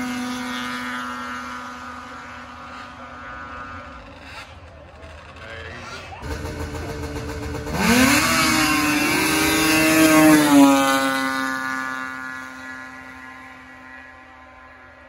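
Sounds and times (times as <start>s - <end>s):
snowmobile engines revving: 0.0s - 15.0s.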